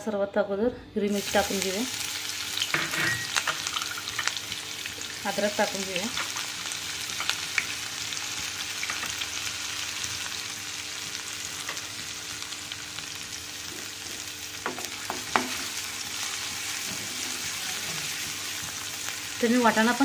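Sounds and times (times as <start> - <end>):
food sizzling in hot oil: 1.1 - 20.0.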